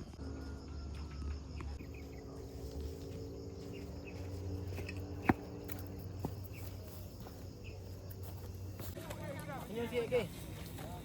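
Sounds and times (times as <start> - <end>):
low hum: 0.0 - 9.0
footsteps on a trail: 0.0 - 11.0.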